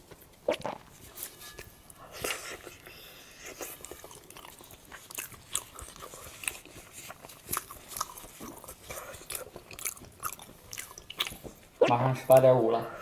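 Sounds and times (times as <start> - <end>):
chewing sticky food: 0.0 - 12.6.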